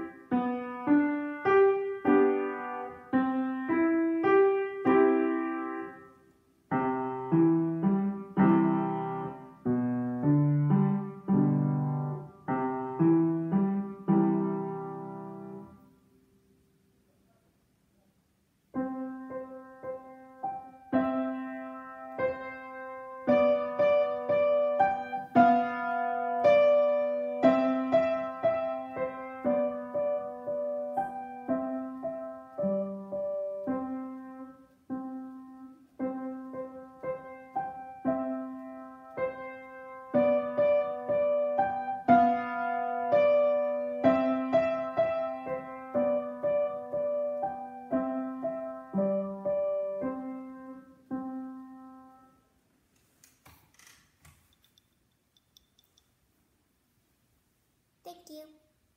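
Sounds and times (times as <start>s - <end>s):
upright piano piece: 0.0s - 16.0s, 18.6s - 52.6s.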